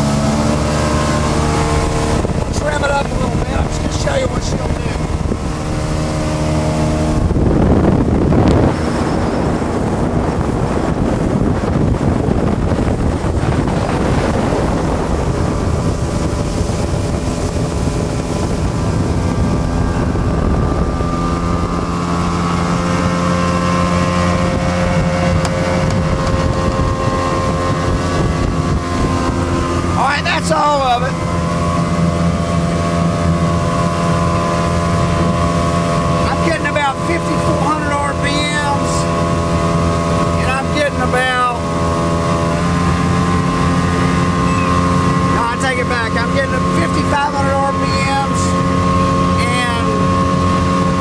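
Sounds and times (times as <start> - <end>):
outboard engine running: 0.0 - 51.0
rush of wind and water: 0.0 - 51.0.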